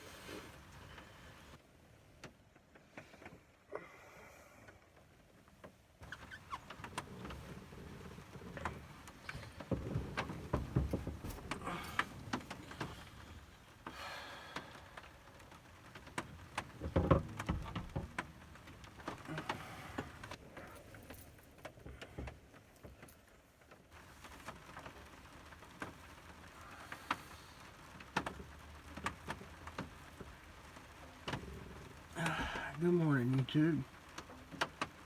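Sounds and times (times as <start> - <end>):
light rain falling: 0.0 - 35.0.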